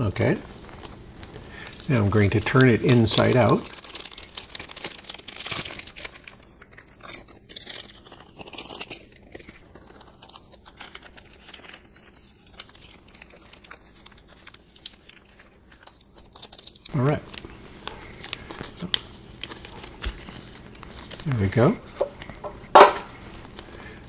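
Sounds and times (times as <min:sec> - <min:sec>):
plastic bag crinkling: 0:00.2 - 0:24.0.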